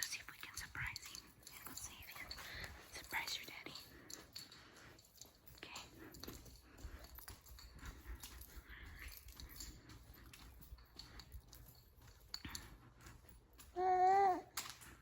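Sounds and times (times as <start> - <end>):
soft clicks and rustles: 0.0 - 15.0.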